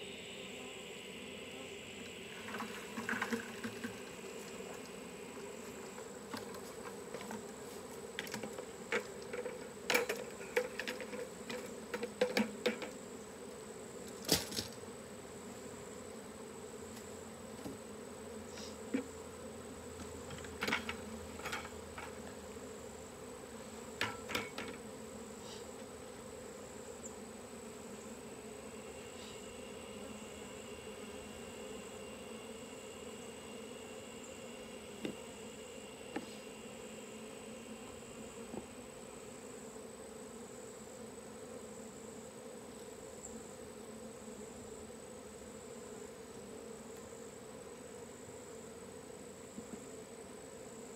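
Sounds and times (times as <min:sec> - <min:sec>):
bees buzzing: 0:00.0 - 0:50.9.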